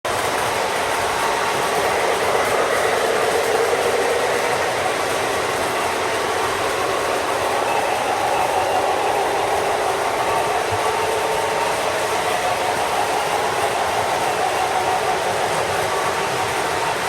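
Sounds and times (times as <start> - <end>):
train wheels rushing on rails: 0.1 - 17.0.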